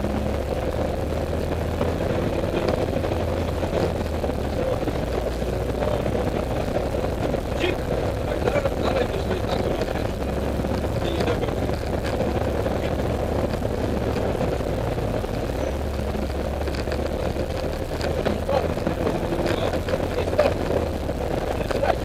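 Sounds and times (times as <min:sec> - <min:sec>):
car engine running steadily: 0:00.0 - 0:22.0
tyre road noise: 0:00.0 - 0:22.0.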